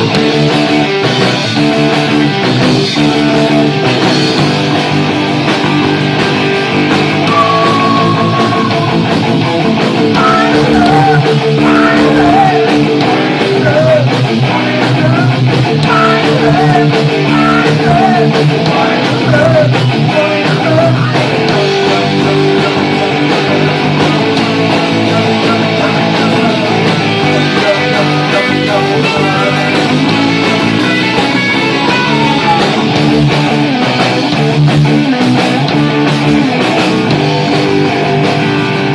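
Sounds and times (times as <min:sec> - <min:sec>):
punk rock music: 0:00.0 - 0:38.9.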